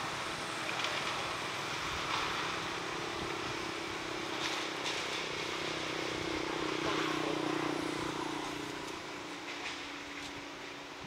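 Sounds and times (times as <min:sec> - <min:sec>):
distant engine hum: 0:00.0 - 0:11.0
outdoor background noise: 0:00.0 - 0:11.0.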